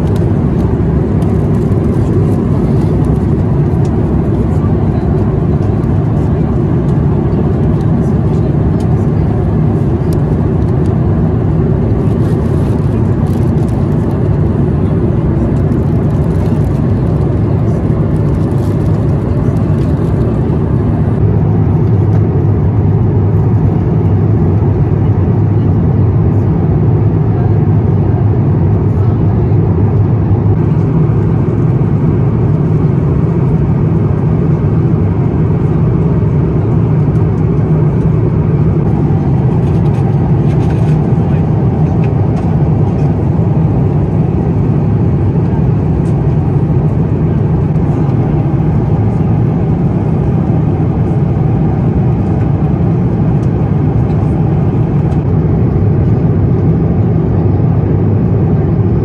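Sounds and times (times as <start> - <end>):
airplane cabin rumble: 0.0 - 59.0.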